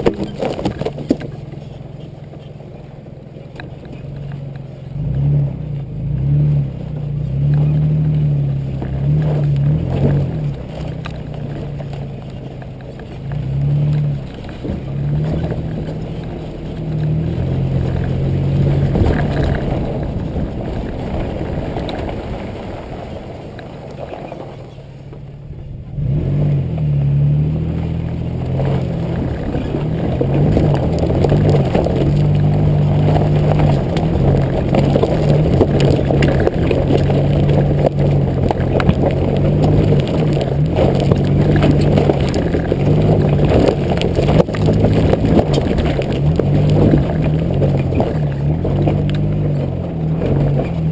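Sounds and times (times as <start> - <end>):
car engine revving: 0.0 - 50.9
tyres rumbling on dirt: 0.0 - 50.9.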